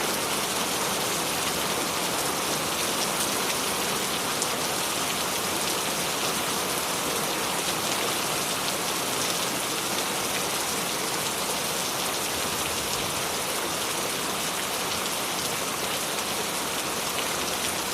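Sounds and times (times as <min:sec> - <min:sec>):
steady rain falling: 0:00.0 - 0:17.9.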